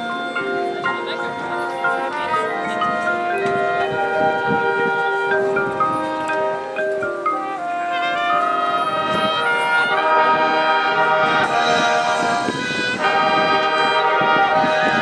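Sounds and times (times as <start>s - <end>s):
brass chords: 0.0s - 15.0s
marimbas playing: 0.0s - 15.0s.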